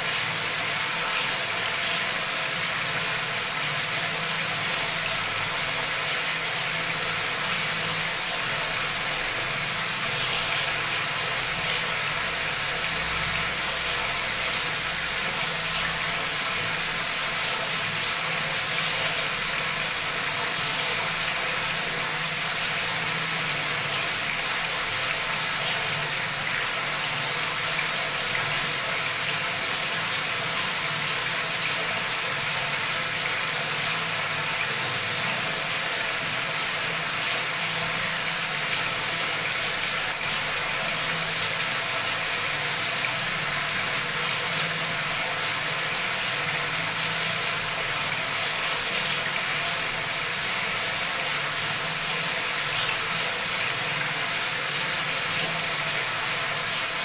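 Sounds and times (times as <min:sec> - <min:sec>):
tap water running into tub: 0:00.0 - 0:57.0.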